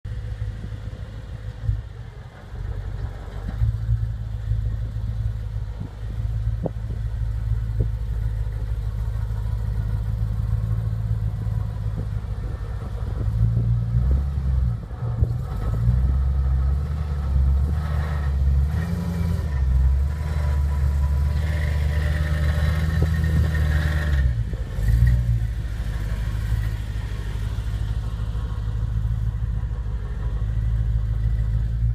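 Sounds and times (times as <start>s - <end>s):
car engine with exhaust leak: 0.1s - 31.9s.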